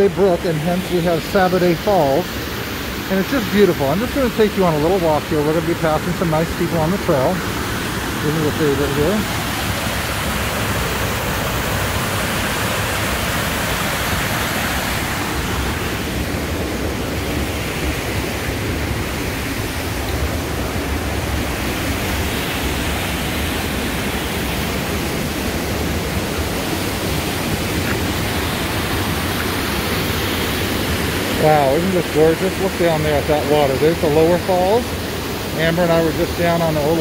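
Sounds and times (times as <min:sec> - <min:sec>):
waterfall rushing water: 0:00.0 - 0:37.0.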